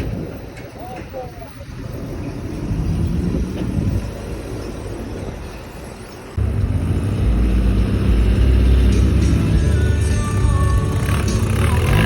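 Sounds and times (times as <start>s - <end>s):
car engine rumbling: 1.6s - 12.0s.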